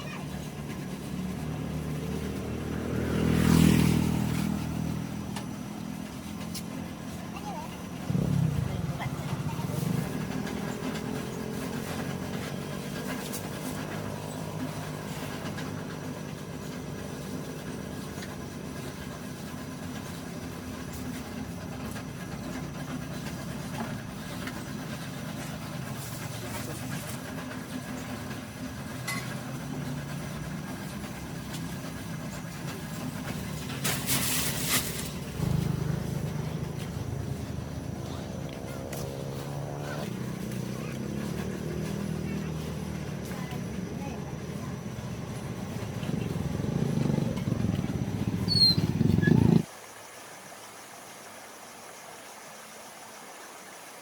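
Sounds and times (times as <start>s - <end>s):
engine humming: 0.0s - 49.7s.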